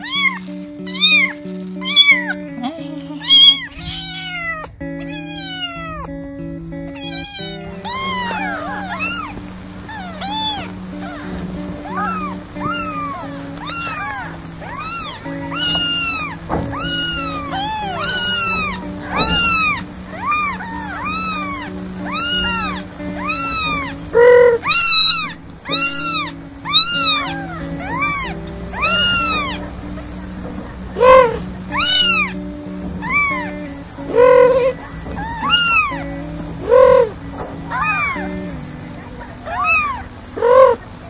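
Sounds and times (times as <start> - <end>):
kitten mewing: 0.0 - 6.2, 6.8 - 30.2, 31.0 - 40.8
soft background music: 0.0 - 41.0.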